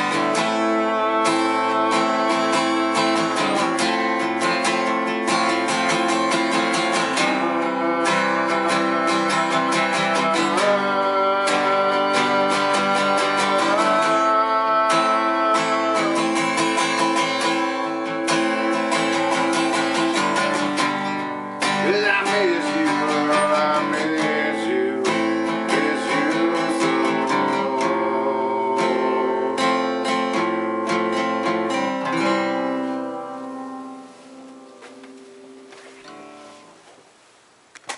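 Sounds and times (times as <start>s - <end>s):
acoustic guitar strumming: 0.0s - 37.2s.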